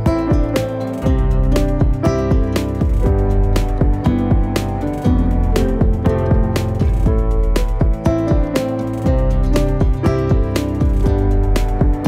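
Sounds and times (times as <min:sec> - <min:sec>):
plucked guitar: 0:00.0 - 0:12.0
steady beat: 0:00.0 - 0:12.0.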